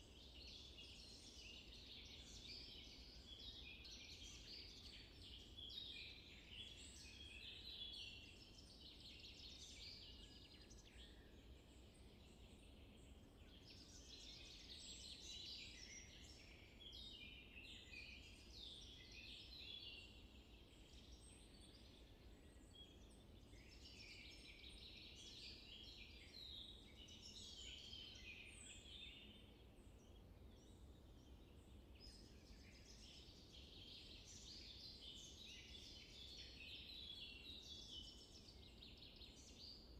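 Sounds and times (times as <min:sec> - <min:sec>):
low steady background noise: 0:00.0 - 0:39.9
small birds chirping: 0:00.0 - 0:39.9.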